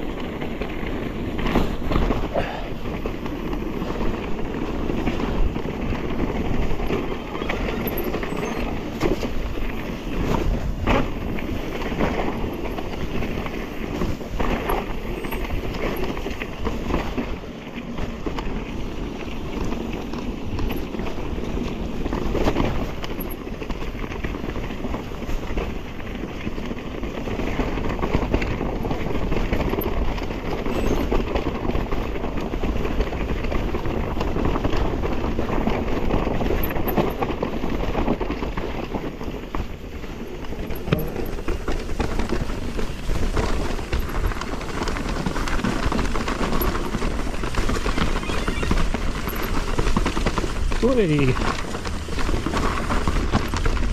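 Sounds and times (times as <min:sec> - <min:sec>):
bike tyres rolling over stones: 0:00.0 - 0:53.9.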